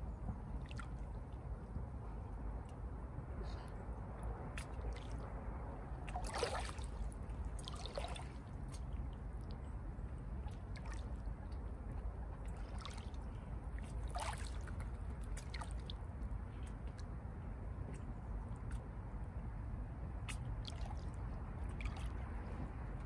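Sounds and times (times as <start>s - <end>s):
small waves lapping and splashing: 0.0s - 19.5s, 20.1s - 23.0s
steady low rumble: 0.0s - 23.0s.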